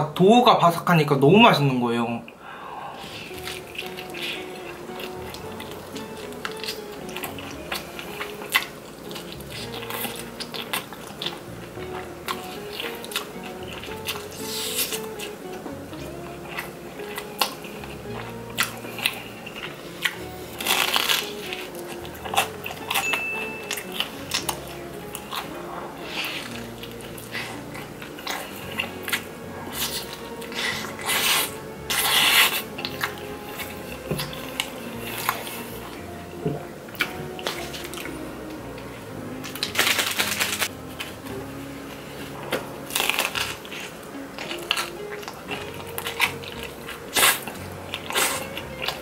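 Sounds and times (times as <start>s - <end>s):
soft background music: 0.0s - 49.0s
crunchy bites and chewing: 3.0s - 36.0s, 39.4s - 41.2s, 42.1s - 49.0s.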